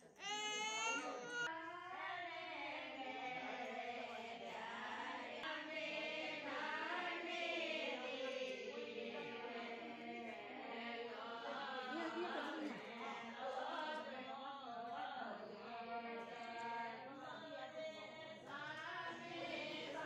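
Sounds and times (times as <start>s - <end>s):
chant-like singing: 1.0s - 20.0s.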